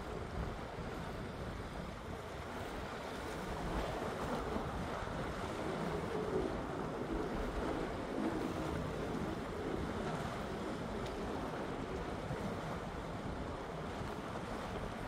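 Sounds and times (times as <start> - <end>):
waves washing: 0.0 - 15.0
wind noise on microphone: 0.0 - 15.0.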